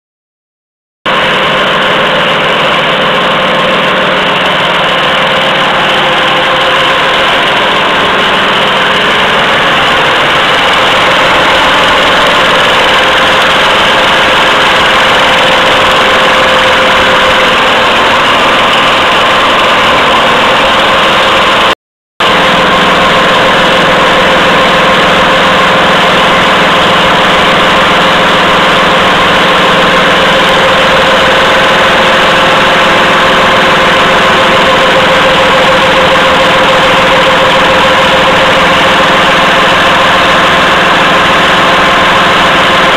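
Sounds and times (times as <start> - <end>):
machine running loudly: 1.1 - 42.9.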